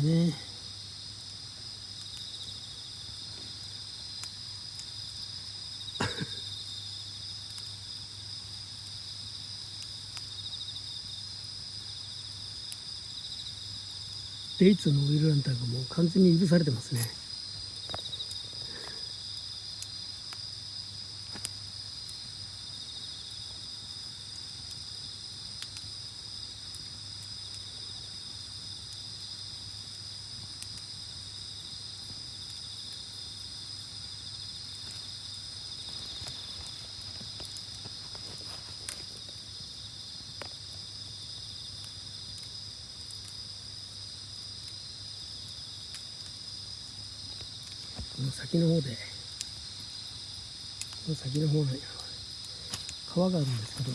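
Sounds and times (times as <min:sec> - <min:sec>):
campfire crackling and popping: 0:00.0 - 0:53.9
night insects chorus: 0:00.0 - 0:53.9.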